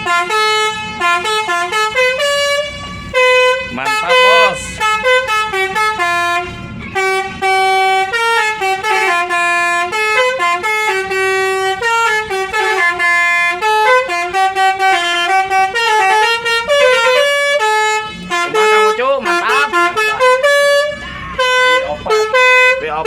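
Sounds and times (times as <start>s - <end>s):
bus air horn playing melody: 0.0s - 23.0s.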